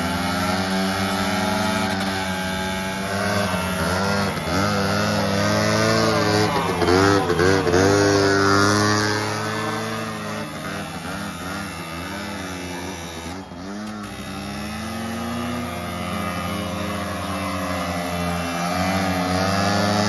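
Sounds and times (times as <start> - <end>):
engine throttle blips: 0.0 - 20.0
quad engines idling: 0.0 - 20.0.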